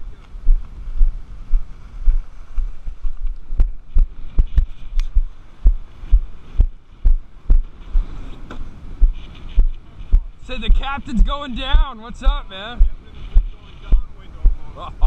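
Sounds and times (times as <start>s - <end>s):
kite canopy flapping: 0.0s - 11.5s, 12.9s - 14.7s
wind buffeting microphone: 0.0s - 15.0s.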